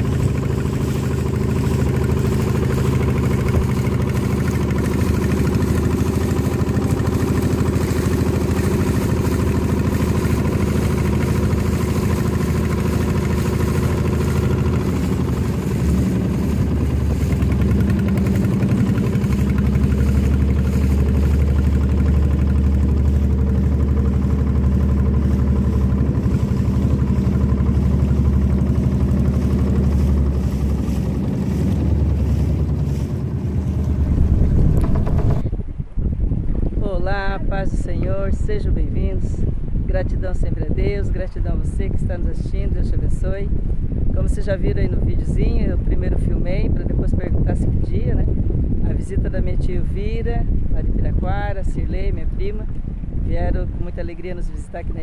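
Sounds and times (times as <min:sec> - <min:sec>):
motorboat engine running: 0:00.0 - 0:55.0.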